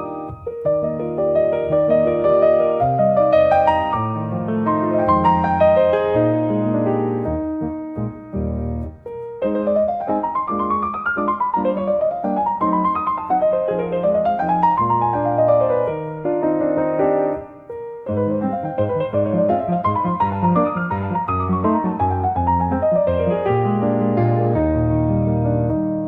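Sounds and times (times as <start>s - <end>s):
gentle solo piano music: 0.0s - 26.0s.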